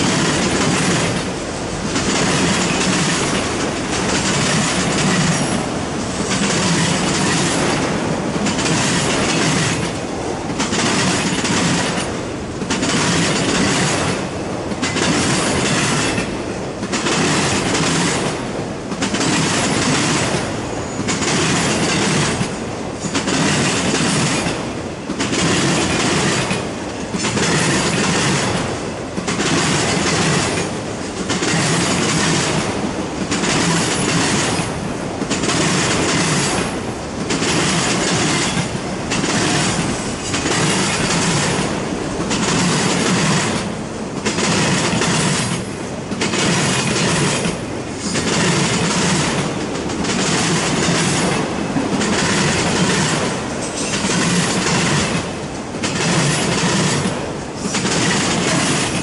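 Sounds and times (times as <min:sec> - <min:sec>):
freight train wheels rolling on rails: 0:00.0 - 0:59.0.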